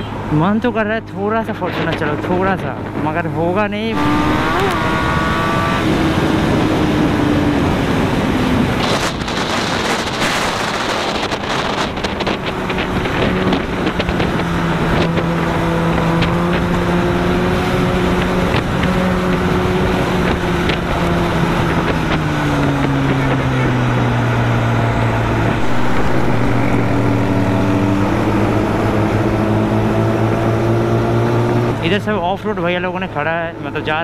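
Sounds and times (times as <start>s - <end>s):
motorcycle engine cruising: 1.0s - 34.0s
wind noise on microphone: 1.5s - 32.0s.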